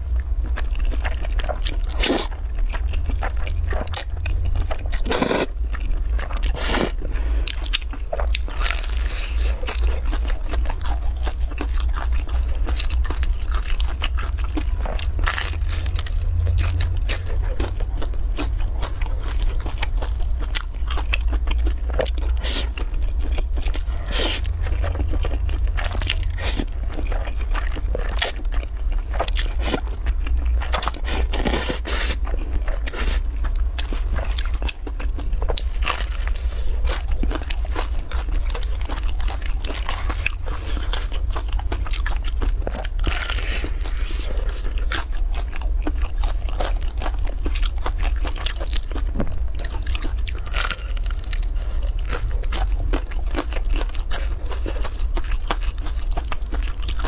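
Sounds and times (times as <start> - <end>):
chewing crisp food: 0.0 - 57.0
low hum: 0.0 - 57.0.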